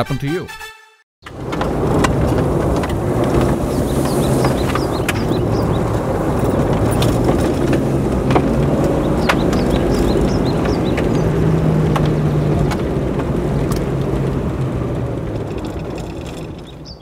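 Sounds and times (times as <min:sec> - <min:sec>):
engine and road noise: 0:01.2 - 0:17.0.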